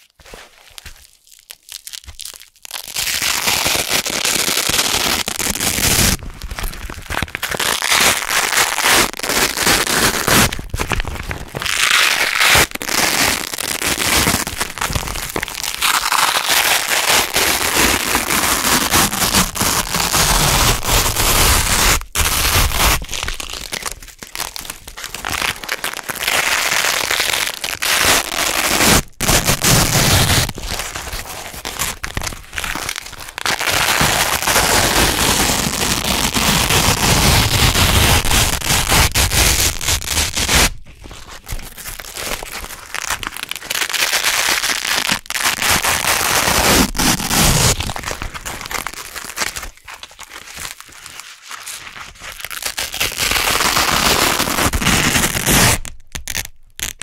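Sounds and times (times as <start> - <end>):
velcro tape ripping apart: 1.5 - 40.8, 41.8 - 50.9, 52.3 - 57.0.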